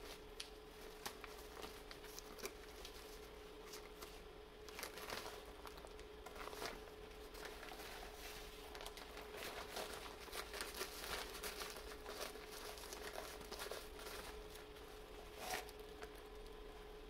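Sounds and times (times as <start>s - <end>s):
fabric hose crinkling and rustling: 0.0s - 16.5s
faint steady hum: 0.0s - 17.0s.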